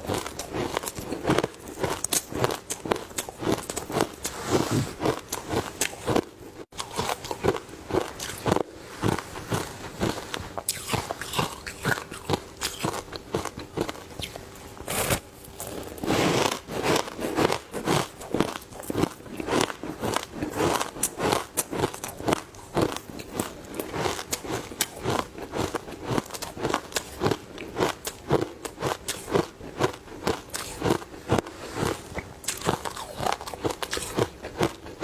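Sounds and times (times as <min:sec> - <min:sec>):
ice crunching while chewed: 0:00.0 - 0:35.0.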